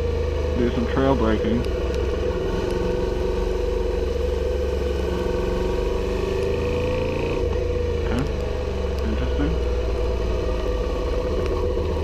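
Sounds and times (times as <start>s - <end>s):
constant low rumble: 0.0s - 12.0s
motorcycle engine running at low revs: 0.0s - 12.0s.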